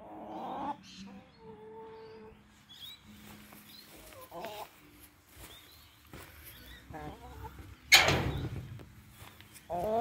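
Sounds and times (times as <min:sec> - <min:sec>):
hens calling softly: 0:00.0 - 0:08.0, 0:09.2 - 0:10.0.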